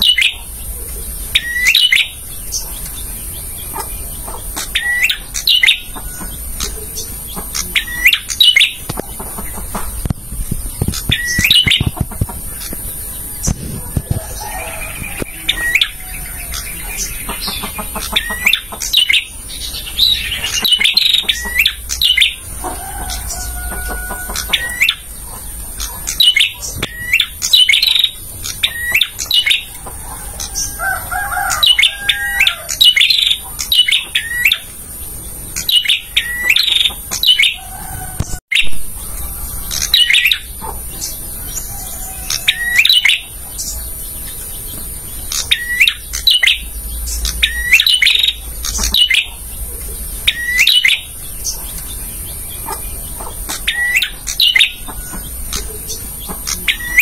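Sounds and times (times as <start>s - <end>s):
bird chirping: 0.0s - 57.0s
lower bird calls: 0.0s - 57.0s.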